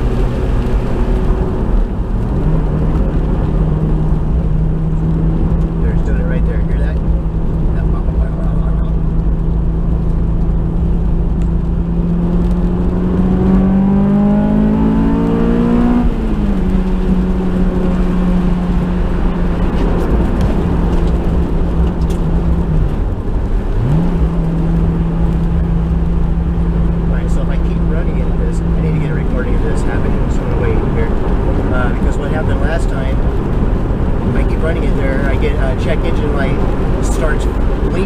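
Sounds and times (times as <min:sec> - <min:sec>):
car engine revving: 0:00.0 - 0:38.0
low road noise: 0:00.0 - 0:38.0.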